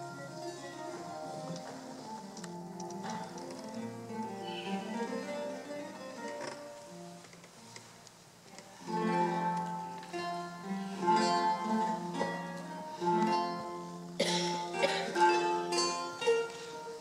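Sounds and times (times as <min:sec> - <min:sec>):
lute plucked notes and chords: 0:00.0 - 0:17.0.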